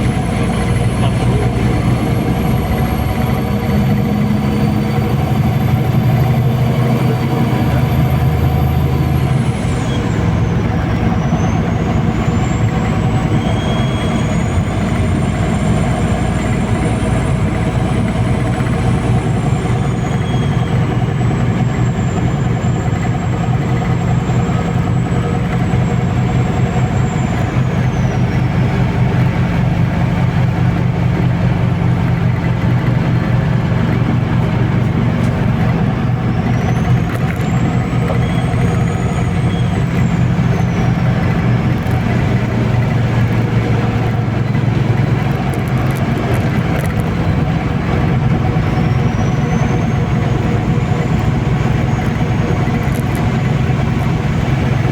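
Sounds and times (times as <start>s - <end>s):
bus engine running: 0.0s - 54.9s
bus ride noise: 0.0s - 54.9s.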